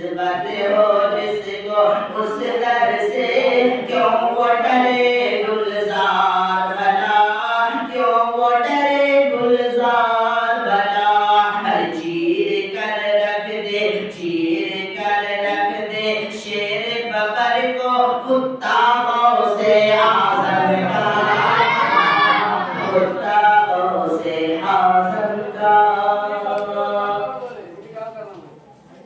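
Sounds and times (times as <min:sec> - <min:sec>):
man chanting: 0:00.0 - 0:28.4.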